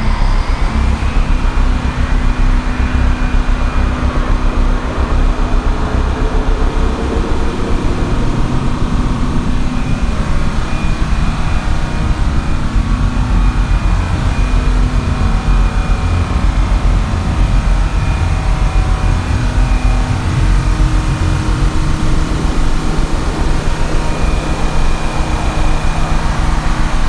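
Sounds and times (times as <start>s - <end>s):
diesel generator rumble: 0.0s - 27.0s
high steady whine: 0.0s - 27.0s.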